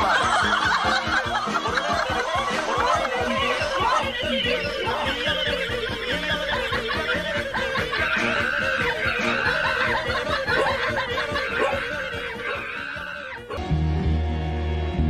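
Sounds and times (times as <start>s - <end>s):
people laughing: 0.0s - 13.6s
background music with steady beat: 0.0s - 15.0s.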